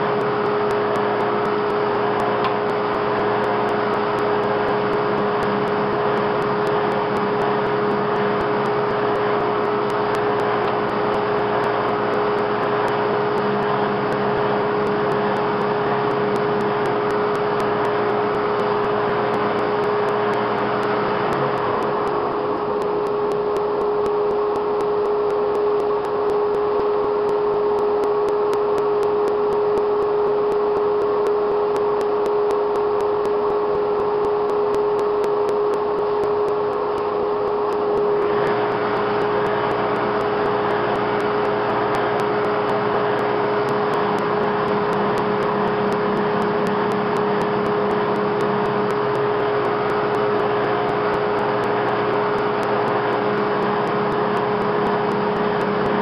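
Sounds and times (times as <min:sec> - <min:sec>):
drum sander humming: 0:00.0 - 0:56.0.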